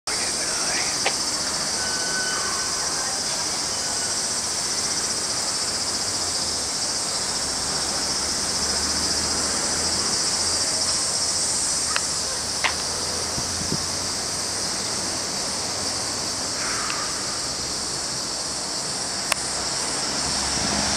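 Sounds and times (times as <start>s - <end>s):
cicadas buzzing: 0.1s - 20.9s.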